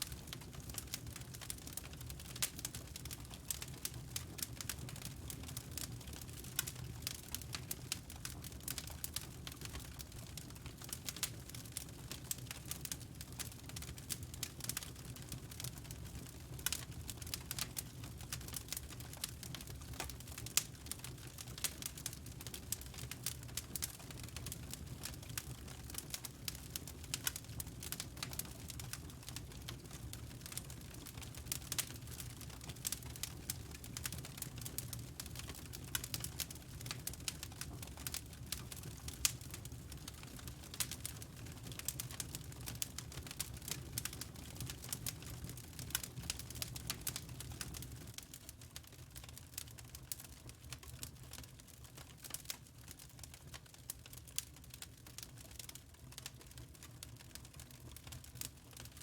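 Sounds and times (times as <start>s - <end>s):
fire crackling and popping: 0.0s - 59.0s
low rumble of fire: 0.0s - 59.0s.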